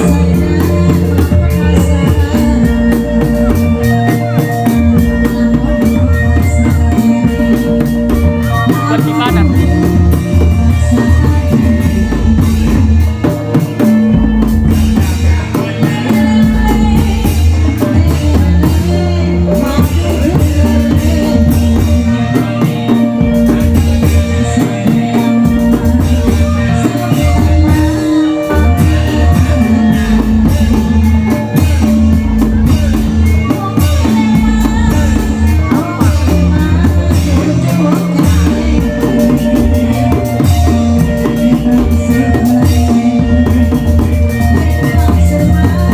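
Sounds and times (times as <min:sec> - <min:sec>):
bass line: 0:00.0 - 0:45.9
drums and percussion: 0:00.0 - 0:45.9.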